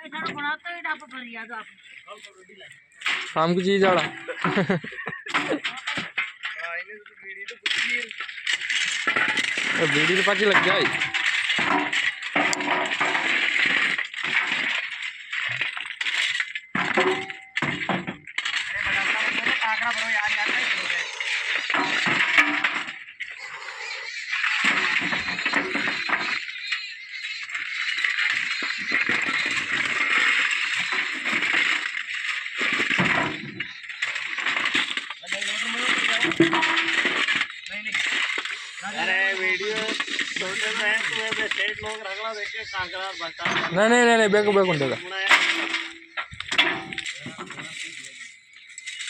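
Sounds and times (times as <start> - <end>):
stones clattering as dumped: 3.0 - 6.8, 7.4 - 23.3, 24.3 - 49.0.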